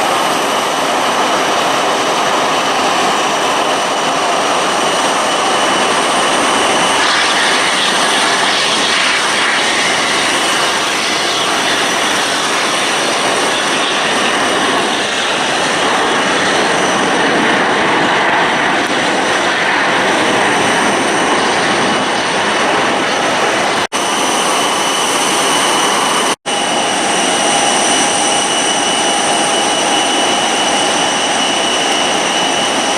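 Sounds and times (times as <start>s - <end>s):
jet engines running: 0.0s - 32.9s.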